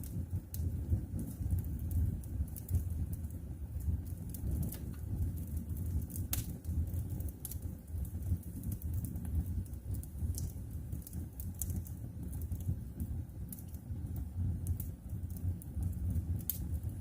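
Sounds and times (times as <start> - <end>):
fire crackles and pops: 0.0 - 17.0
rumble of flames: 0.0 - 17.0.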